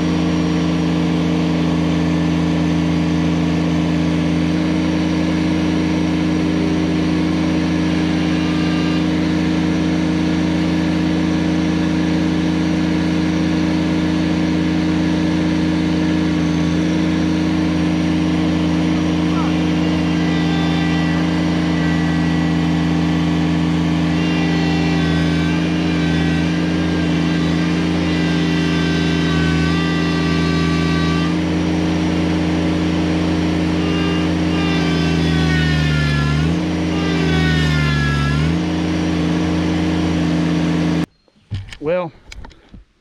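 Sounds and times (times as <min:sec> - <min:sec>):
tractor diesel engine straining: 0:00.0 - 0:43.0.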